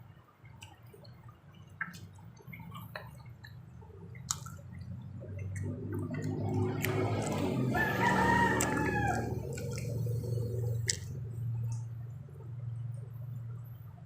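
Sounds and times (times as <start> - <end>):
wet chewing and lip-smacking: 0.4 - 12.1
low hum: 1.6 - 14.0.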